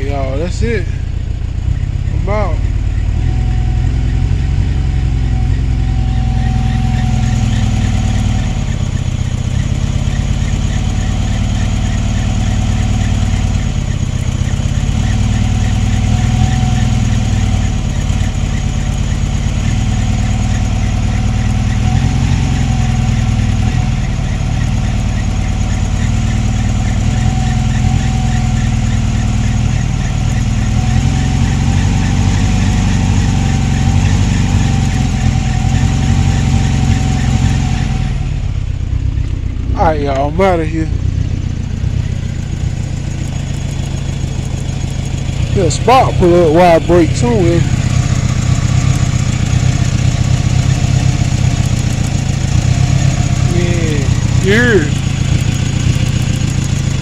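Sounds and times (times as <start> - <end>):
pickup engine idling: 0.0 - 57.0
rapid engine ticking: 0.0 - 57.0.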